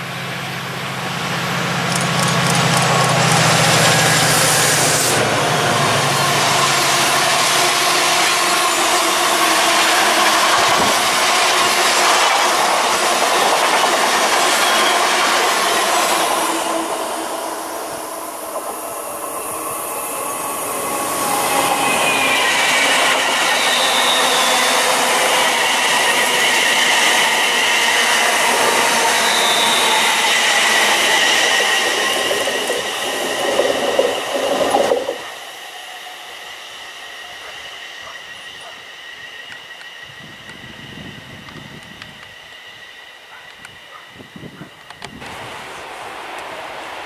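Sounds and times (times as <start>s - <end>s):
electric train passing with whine: 0.0s - 47.0s
freight train running past: 0.0s - 47.0s.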